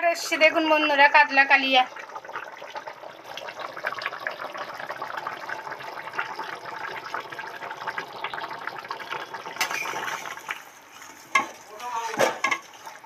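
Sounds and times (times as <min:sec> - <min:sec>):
curry bubbling and popping: 0:00.0 - 0:13.0.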